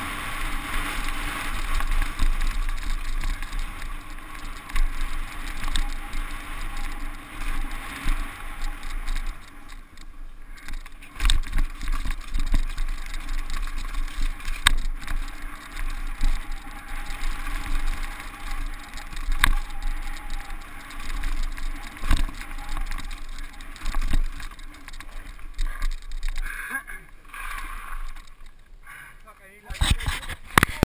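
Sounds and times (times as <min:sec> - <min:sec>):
bike knocking over bumps: 0:00.0 - 0:26.6
tyre noise on dirt: 0:00.0 - 0:30.8.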